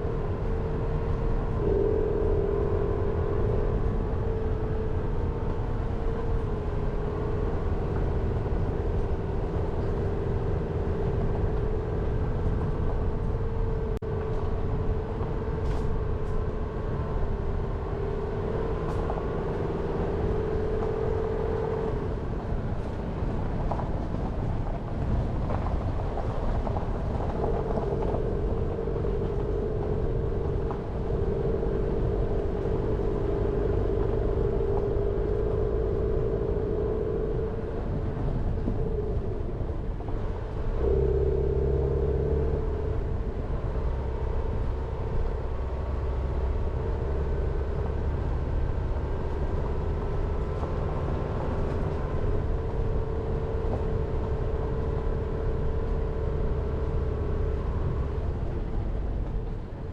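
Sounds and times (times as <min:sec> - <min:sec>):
car engine droning: 0:00.0 - 0:59.9
road and tyre rumble: 0:00.0 - 0:59.9.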